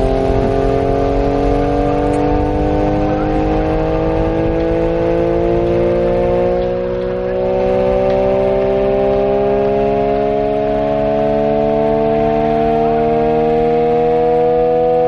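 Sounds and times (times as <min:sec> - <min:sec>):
air raid siren winding up: 0:00.0 - 0:15.0
steady low hum: 0:00.0 - 0:15.0.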